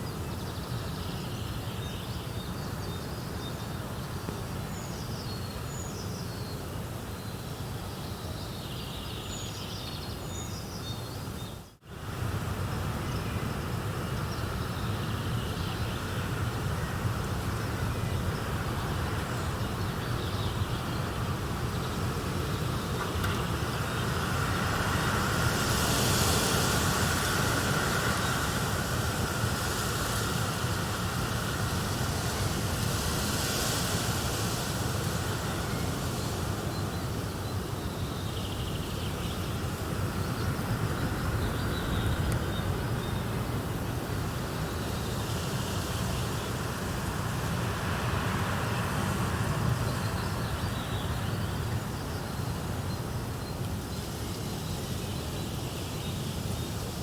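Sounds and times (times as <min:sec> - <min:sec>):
outdoor nature ambience: 0:00.0 - 0:57.0.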